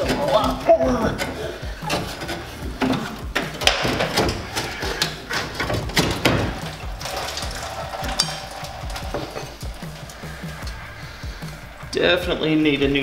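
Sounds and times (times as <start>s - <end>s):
metallic clanks and rattles: 0.0s - 11.6s.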